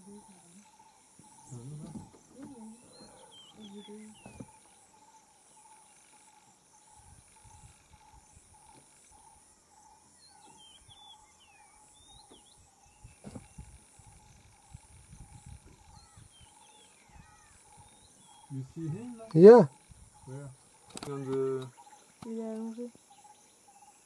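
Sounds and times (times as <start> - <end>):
bird chirps: 0.0 - 24.0.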